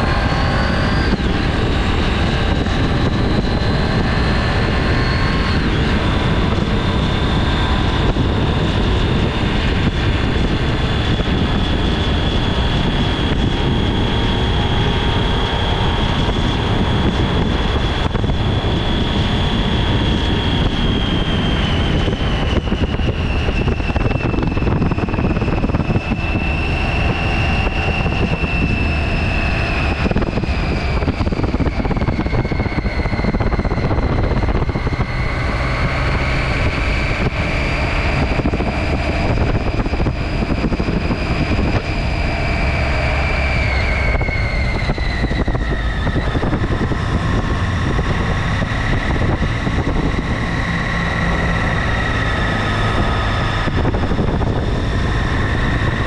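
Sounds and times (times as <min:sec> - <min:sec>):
high whine: 0:00.0 - 0:56.0
motorcycle engine drone: 0:00.0 - 0:56.0
road and wind noise: 0:00.0 - 0:56.0.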